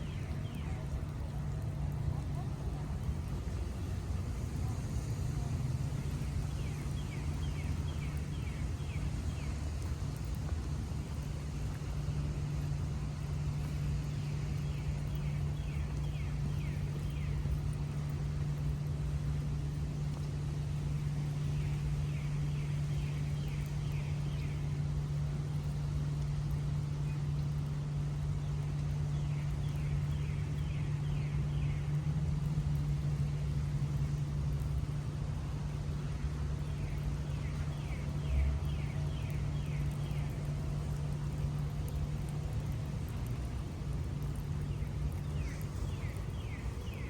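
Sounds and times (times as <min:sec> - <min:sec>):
distant traffic rumble: 0:00.0 - 0:47.0.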